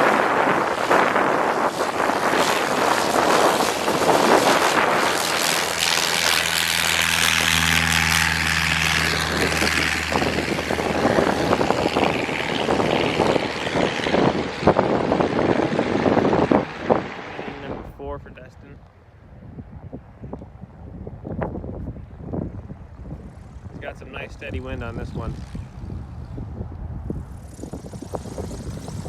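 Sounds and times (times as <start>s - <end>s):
light plane engine droning: 0.0s - 29.0s
wind noise on microphone: 0.0s - 29.0s.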